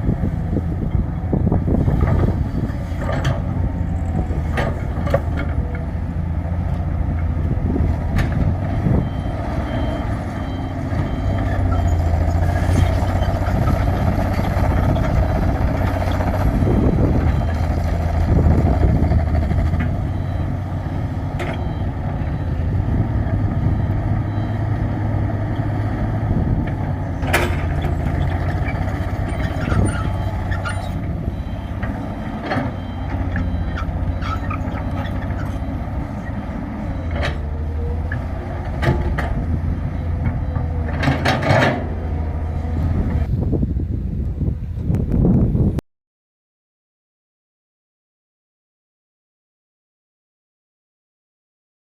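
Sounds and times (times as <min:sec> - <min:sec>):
excavator diesel engine running: 0:00.0 - 0:44.8.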